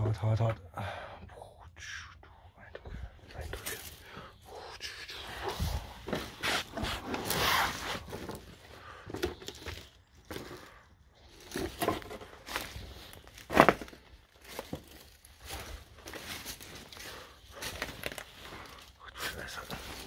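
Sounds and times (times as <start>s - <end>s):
footsteps crunching over rubble: 2.8s - 4.3s, 5.3s - 20.0s.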